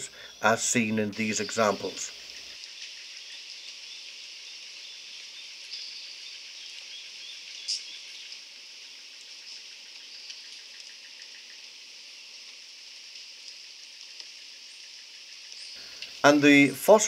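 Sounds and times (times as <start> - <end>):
short high insect call: 0.0 - 16.8
high-pitched insect chorus: 0.0 - 17.0.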